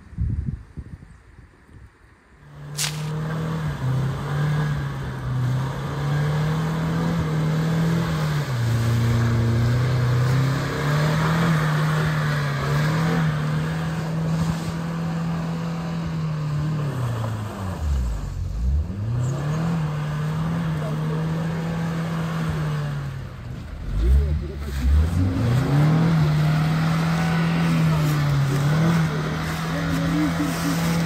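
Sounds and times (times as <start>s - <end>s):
car engine under load: 2.4s - 31.0s.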